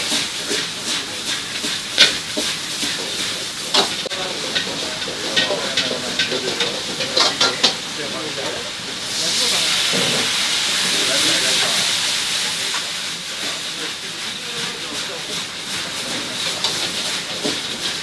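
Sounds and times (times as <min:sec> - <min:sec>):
food sizzling in hot oil: 0:00.0 - 0:18.0
utensils clanking on pan: 0:00.0 - 0:18.0.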